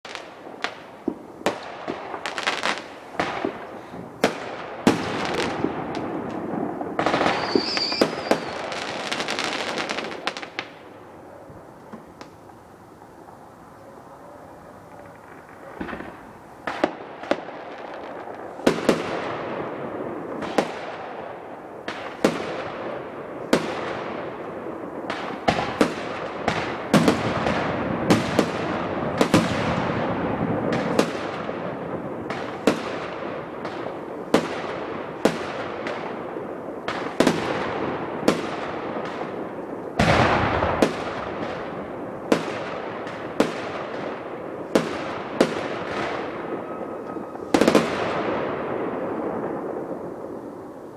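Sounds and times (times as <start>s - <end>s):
fireworks bangs: 0.1s - 50.9s.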